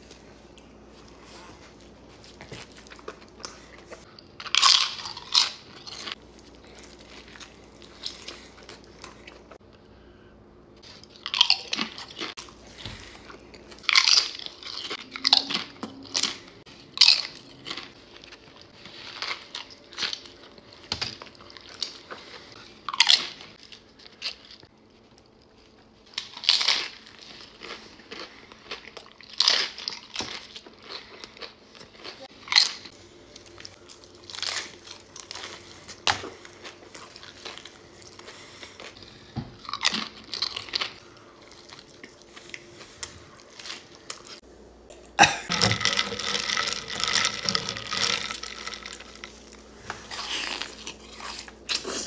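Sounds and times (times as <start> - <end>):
person chewing: 0.0 - 9.7, 10.8 - 52.0
crunching food: 1.8 - 9.6, 10.8 - 44.4, 45.2 - 52.0.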